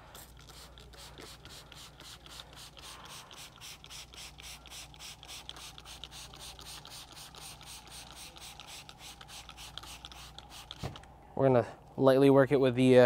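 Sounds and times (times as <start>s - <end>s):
spray bottle spritzing: 0.0s - 11.1s.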